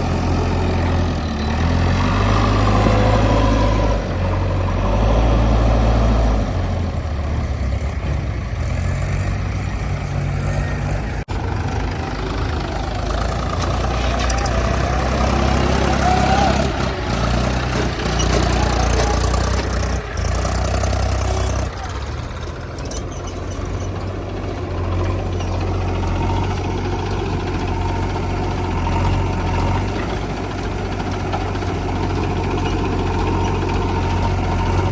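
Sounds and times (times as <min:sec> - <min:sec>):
diesel engines running: 0:00.0 - 0:34.9.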